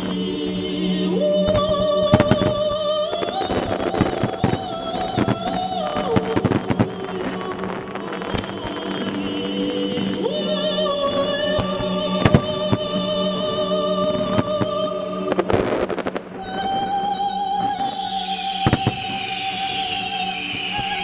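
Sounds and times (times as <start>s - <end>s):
person singing long notes: 0.0s - 21.0s
fireworks bangs: 1.5s - 10.3s, 11.1s - 16.9s, 18.6s - 21.0s
crackling firework bursts: 1.5s - 21.0s.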